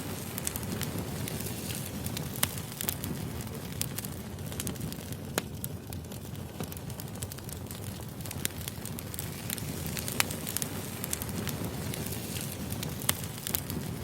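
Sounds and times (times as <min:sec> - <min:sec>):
fire crackling and popping: 0:00.0 - 0:14.0
firewood burning: 0:00.0 - 0:14.0.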